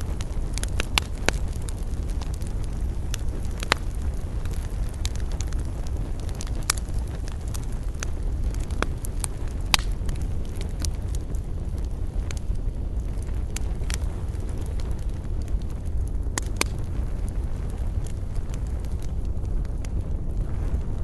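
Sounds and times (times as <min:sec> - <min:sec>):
campfire crackling and popping: 0:00.0 - 0:21.0
low rumble of flame: 0:00.0 - 0:21.0.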